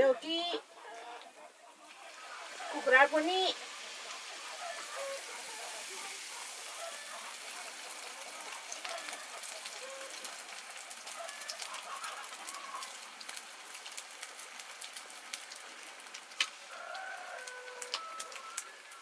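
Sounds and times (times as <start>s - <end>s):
hot oil crackling: 0.0s - 19.0s.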